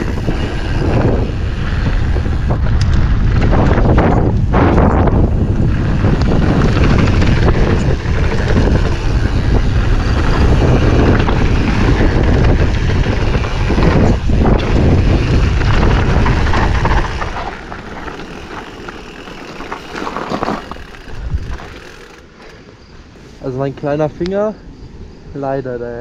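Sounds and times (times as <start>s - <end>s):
wind on microphone: 0.0s - 22.0s
mountain bike rattling on dirt trail: 0.0s - 24.1s.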